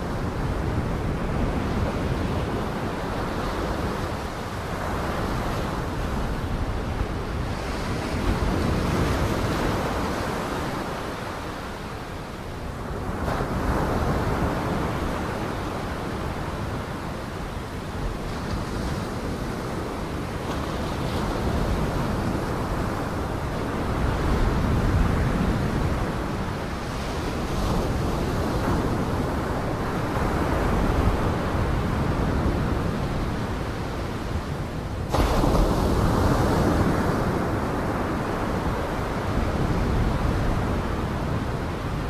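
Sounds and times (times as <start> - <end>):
waves breaking against a pier: 0.1 - 42.0.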